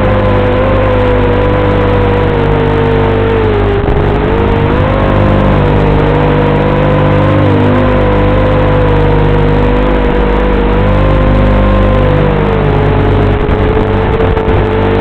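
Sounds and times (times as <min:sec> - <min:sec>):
drone motors whining: 0:00.0 - 0:15.0
low buzz: 0:00.0 - 0:15.0.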